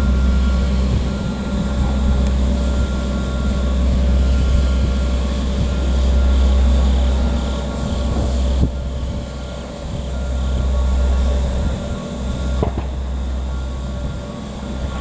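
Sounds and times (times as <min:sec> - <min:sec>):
engine low drone: 0:00.0 - 0:15.0
faint high beeping tone: 0:00.0 - 0:15.0.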